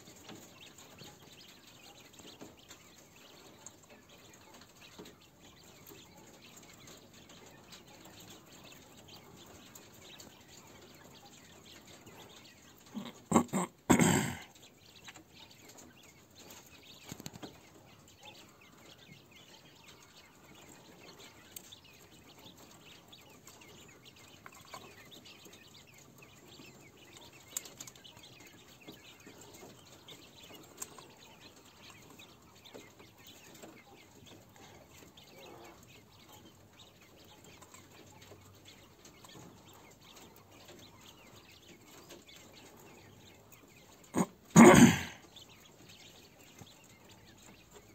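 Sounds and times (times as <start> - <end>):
quails moving on wire mesh: 0.0 - 47.9.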